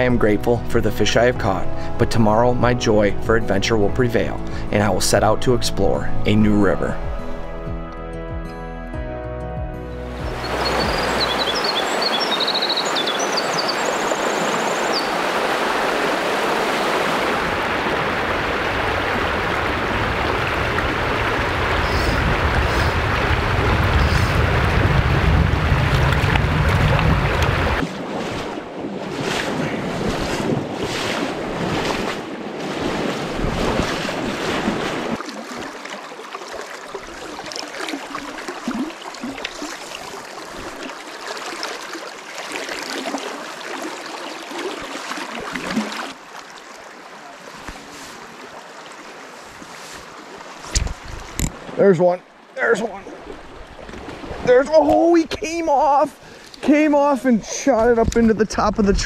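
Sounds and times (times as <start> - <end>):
river water rushing: 10.2 - 57.9.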